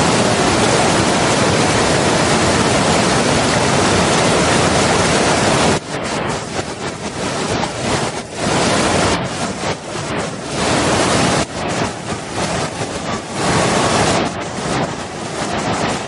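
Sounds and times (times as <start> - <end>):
waterfall rushing water: 0.0 - 16.0.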